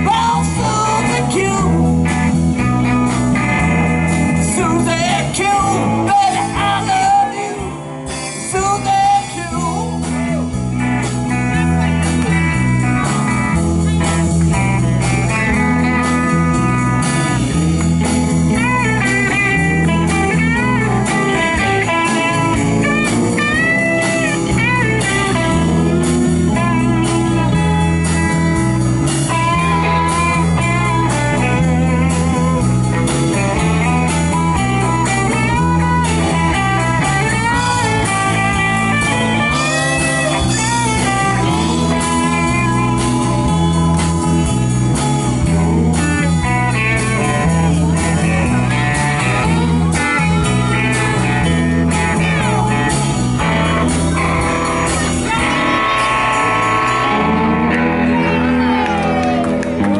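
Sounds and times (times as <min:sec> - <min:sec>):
band playing blues-rock: 0:00.0 - 0:59.9
electric guitar bending notes: 0:00.0 - 0:59.9.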